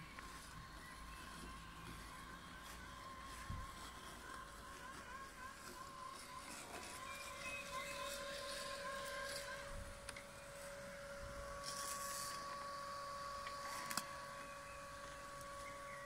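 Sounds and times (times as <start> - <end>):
robot lawn mower whine: 0.0 - 16.0.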